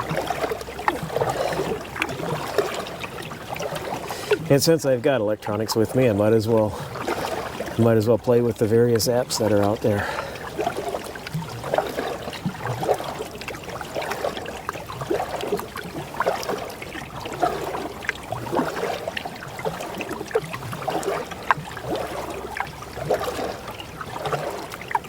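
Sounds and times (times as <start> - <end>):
water trickling and dripping: 0.0 - 25.0.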